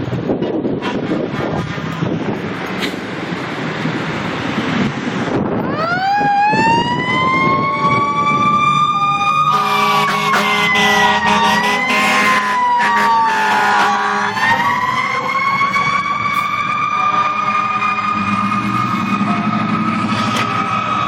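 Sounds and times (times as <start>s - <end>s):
diesel engine: 0.0s - 21.0s
fire truck siren wailing: 3.2s - 21.0s.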